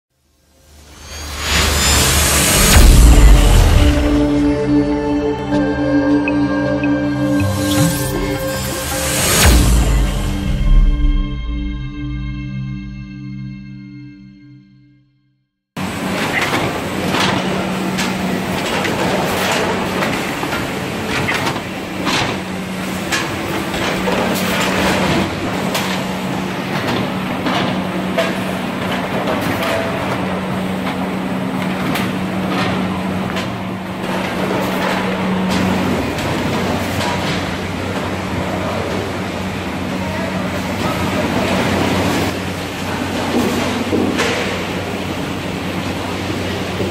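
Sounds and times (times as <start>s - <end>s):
conveyor machine hum: 0.2s - 13.2s, 15.8s - 46.9s.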